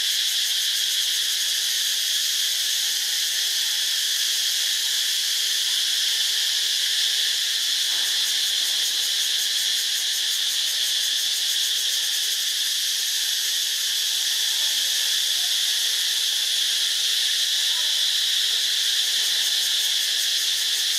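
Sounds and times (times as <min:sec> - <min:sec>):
forest insects shrill hum: 0:00.0 - 0:20.9.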